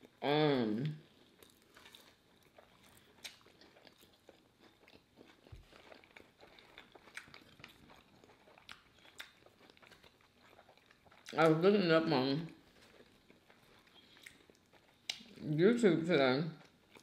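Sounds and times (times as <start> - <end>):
person chewing food: 0.8 - 11.6, 12.4 - 15.5, 16.5 - 17.0.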